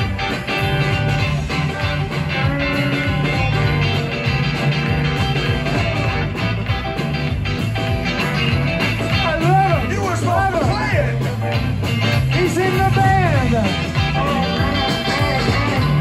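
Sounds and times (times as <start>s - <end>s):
rock and roll band playing: 0.0s - 16.0s.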